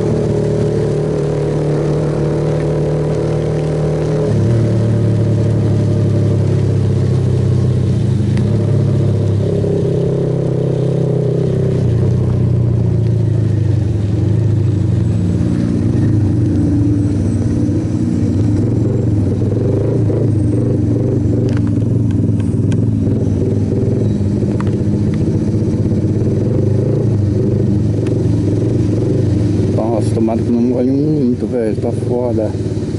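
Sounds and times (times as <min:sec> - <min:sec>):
motorcycle engine running: 0:00.0 - 0:32.9
wind and road rush: 0:00.0 - 0:32.9.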